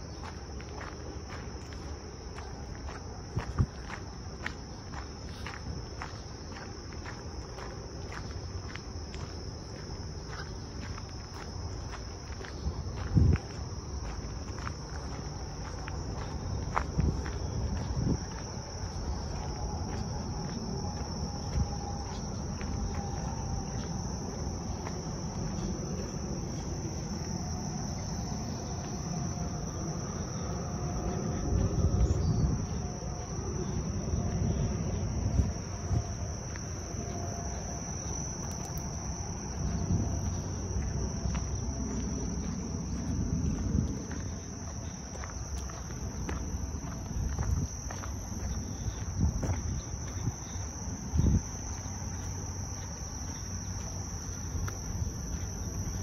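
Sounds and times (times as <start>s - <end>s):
high-pitched insect chorus: 0.0s - 56.0s
low rumbling noise: 0.0s - 56.0s.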